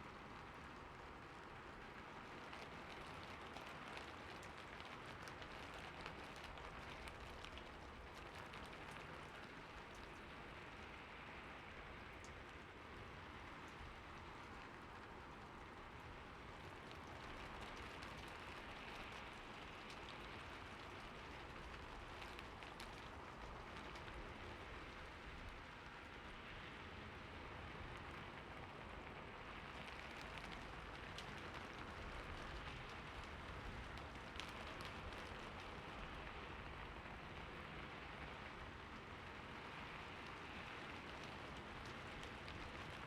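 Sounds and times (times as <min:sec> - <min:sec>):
steady rain falling: 0:00.0 - 0:43.0
raindrop ticks: 0:00.2 - 0:26.8, 0:27.9 - 0:43.0.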